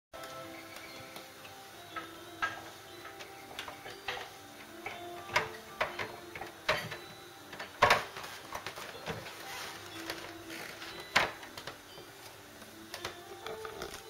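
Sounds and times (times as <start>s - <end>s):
faint background music: 0.2s - 14.0s.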